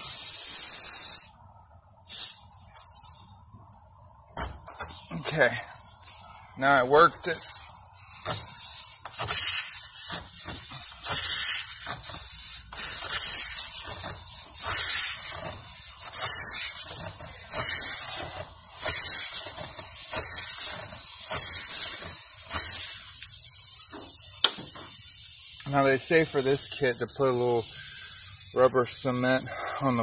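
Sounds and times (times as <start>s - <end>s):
air hissing out of tyre: 0.0s - 3.5s, 4.4s - 30.0s.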